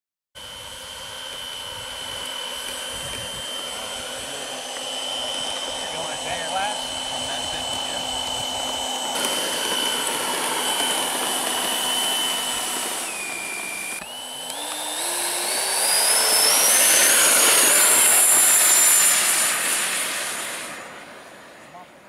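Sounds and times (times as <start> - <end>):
model jet engine whining: 0.4 - 22.0.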